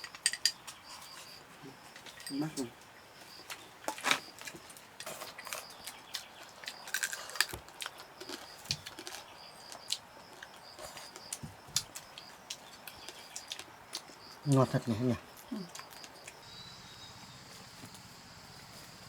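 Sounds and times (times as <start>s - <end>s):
faint insects chirping: 0.0s - 19.0s.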